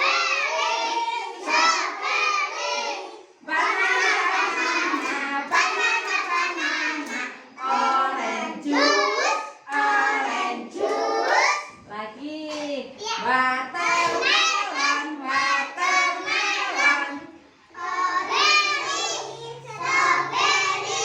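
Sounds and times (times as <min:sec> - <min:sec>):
children singing together: 0:00.0 - 0:11.8, 0:13.2 - 0:21.0.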